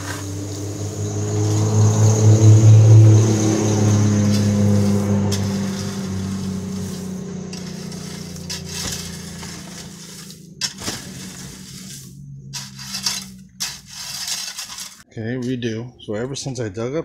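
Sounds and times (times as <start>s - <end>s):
vehicle engine hum: 0.0s - 15.1s
metal rake scraping gravel: 0.0s - 15.7s.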